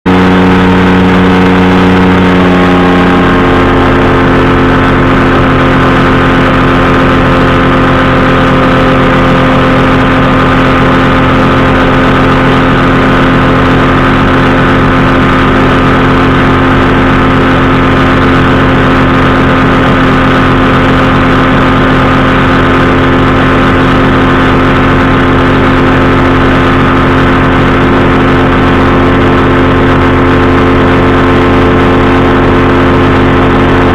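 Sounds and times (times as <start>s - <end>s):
engine and propeller running: 0.0s - 33.9s.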